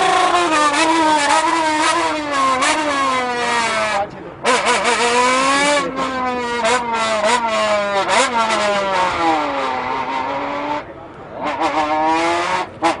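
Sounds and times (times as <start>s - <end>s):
man imitating car engine: 0.0s - 13.0s.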